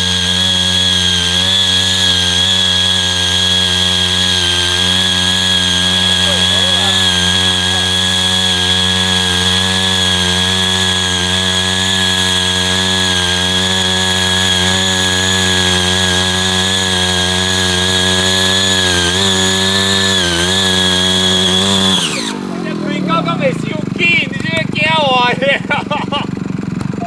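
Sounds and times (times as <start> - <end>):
power tiller engine running: 0.0 - 27.0.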